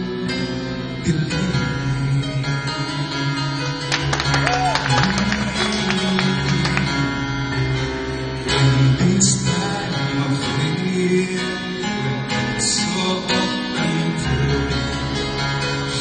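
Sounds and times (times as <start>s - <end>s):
person singing: 0.8s - 7.3s, 8.4s - 16.0s.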